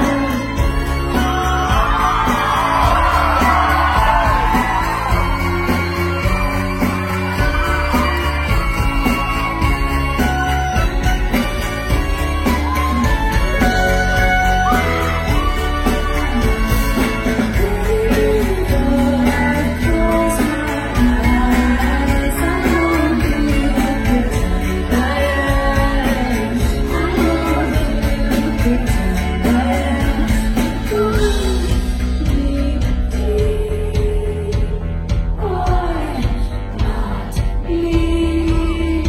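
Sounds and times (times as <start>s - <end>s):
song with singing and beat: 0.0s - 39.0s.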